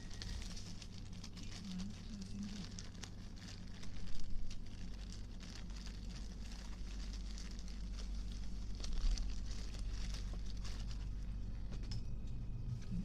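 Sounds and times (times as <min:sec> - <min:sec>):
train equipment low hum: 0:00.0 - 0:13.0.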